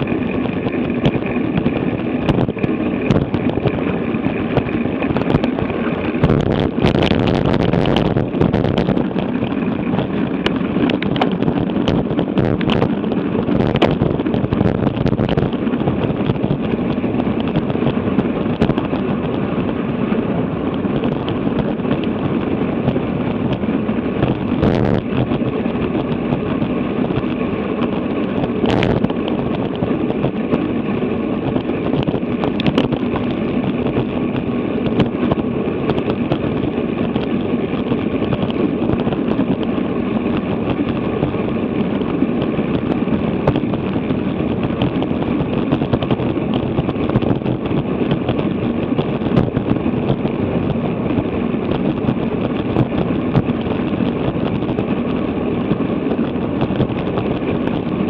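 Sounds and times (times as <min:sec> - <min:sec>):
bicycle tyre noise: 0:00.0 - 0:58.0
wind on microphone: 0:00.0 - 0:58.0.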